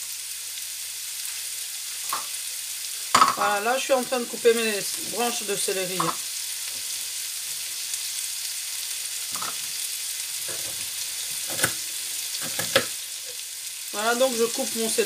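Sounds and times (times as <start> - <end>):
onions sizzling in a frying pan: 0.0 - 15.0.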